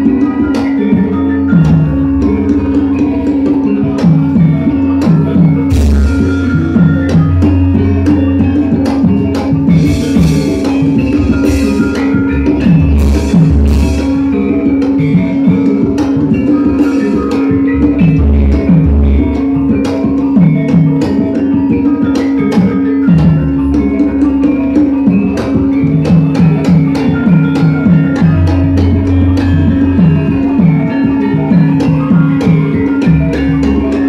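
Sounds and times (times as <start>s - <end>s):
drum strokes falling in pitch: 0.0s - 34.0s
ringing metallophone tone: 0.0s - 34.0s
sharp percussive strikes: 0.0s - 34.0s.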